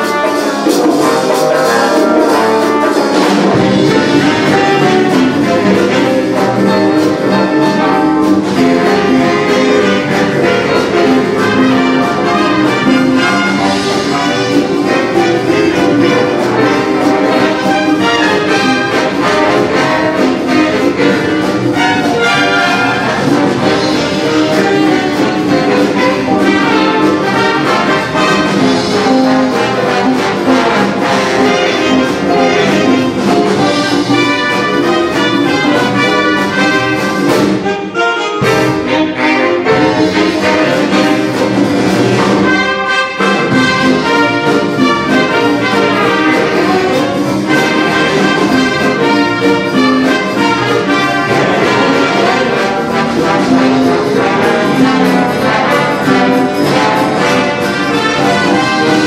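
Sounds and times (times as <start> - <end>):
big band playing swing: 0.0 - 59.0.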